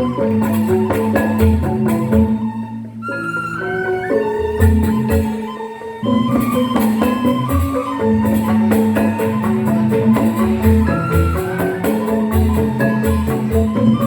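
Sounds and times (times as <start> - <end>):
bamboo xylophones interlocking patterns: 0.0 - 14.0.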